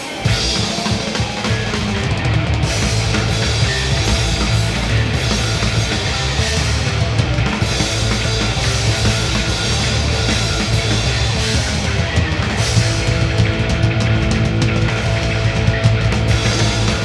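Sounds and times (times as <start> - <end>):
heavy rock band playing: 0.0 - 17.0.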